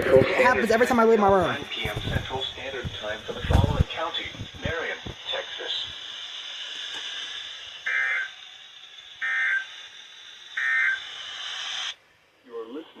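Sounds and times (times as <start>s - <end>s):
shrill digital data bursts: 0.0s - 12.0s
radio hiss: 0.0s - 13.0s.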